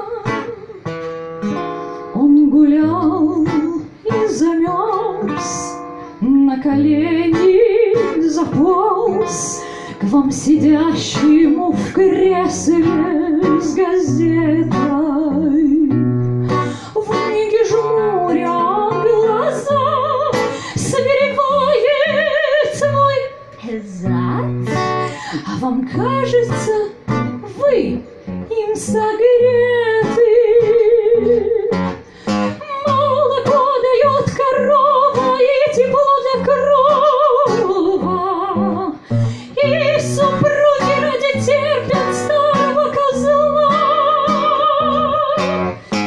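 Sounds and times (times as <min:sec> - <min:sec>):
woman singing with vibrato: 0:00.0 - 0:00.8, 0:02.1 - 0:46.0
acoustic guitar: 0:00.0 - 0:46.0.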